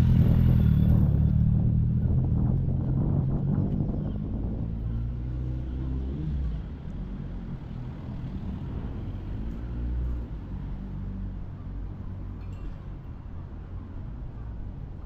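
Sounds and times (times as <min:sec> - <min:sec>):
vehicle engine hum: 0:00.0 - 0:12.4.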